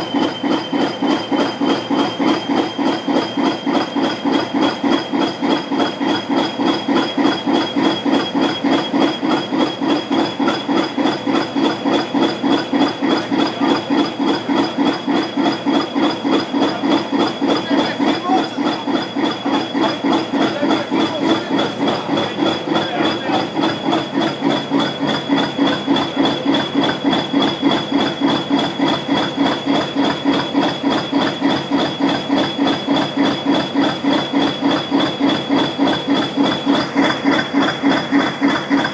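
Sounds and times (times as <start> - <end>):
diesel locomotive engine idling: 0.0 - 38.9.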